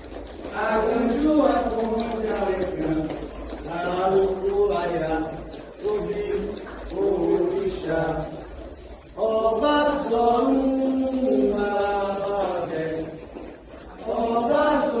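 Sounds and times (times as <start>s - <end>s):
shaker rattle: 0.0s - 15.0s
voices chanting: 0.0s - 15.0s.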